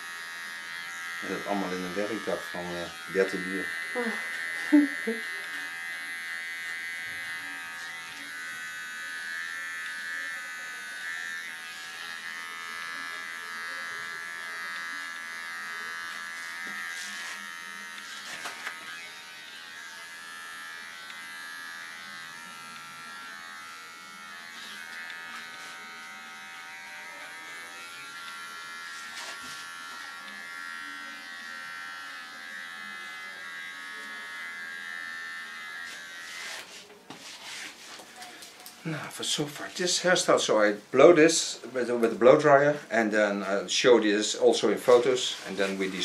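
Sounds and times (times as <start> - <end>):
electric hair trimmer buzzing: 0.0 - 40.8, 43.0 - 46.0.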